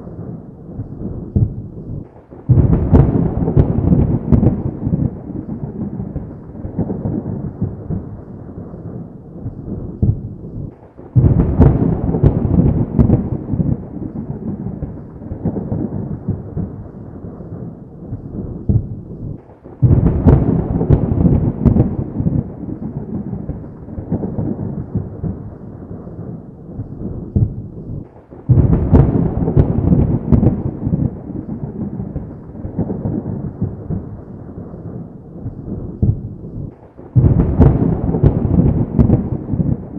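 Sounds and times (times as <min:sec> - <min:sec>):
thunder claps rumbling: 0:00.0 - 0:39.9.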